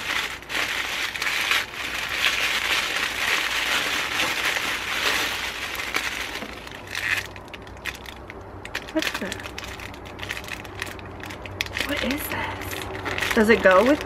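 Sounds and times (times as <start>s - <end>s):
tissue paper crinkling: 0.0s - 8.2s, 8.8s - 14.0s.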